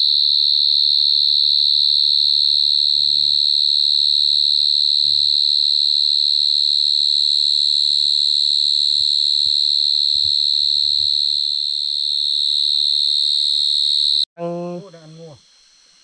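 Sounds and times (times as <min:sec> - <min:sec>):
insect singing shrill tone: 0:00.0 - 0:16.0.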